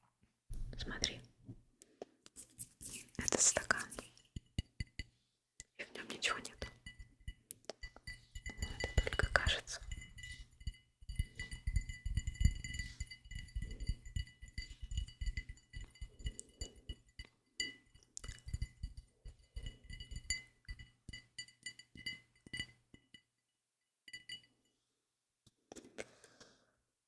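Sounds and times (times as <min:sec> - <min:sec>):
soft taps and clinks: 0:00.5 - 0:24.8.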